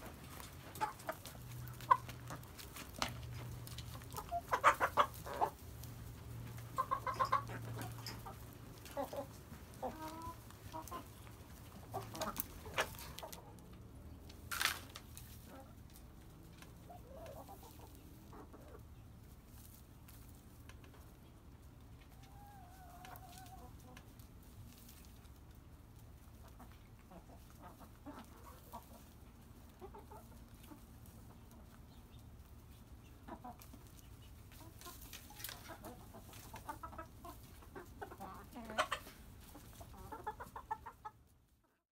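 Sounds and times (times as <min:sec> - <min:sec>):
hens clucking: 0:00.0 - 0:41.8.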